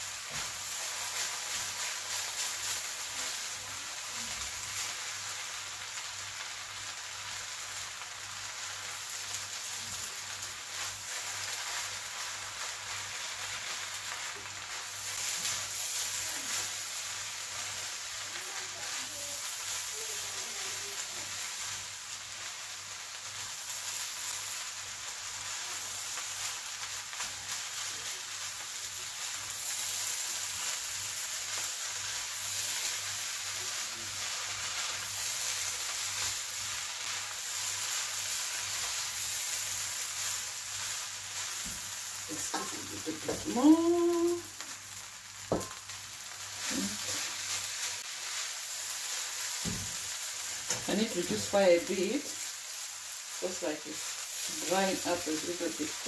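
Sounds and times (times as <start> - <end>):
rice sizzling in a pan: 0.0 - 56.0.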